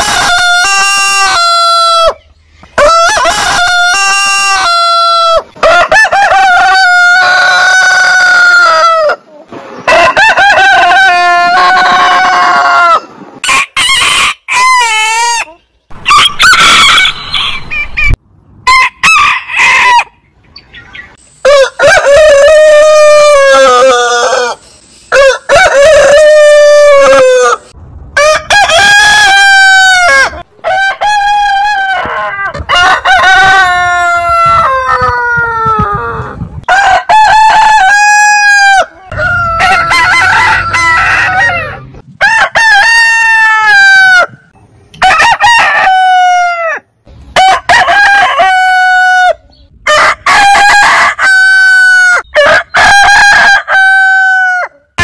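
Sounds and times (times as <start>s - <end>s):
roosters crowing: 0.0s - 20.2s, 21.4s - 55.0s.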